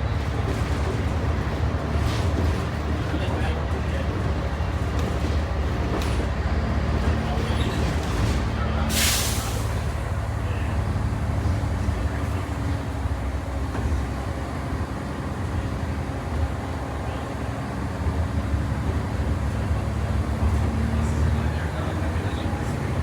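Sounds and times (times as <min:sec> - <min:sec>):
bus engine running: 0:00.0 - 0:23.0
road and tyre rumble: 0:00.0 - 0:23.0.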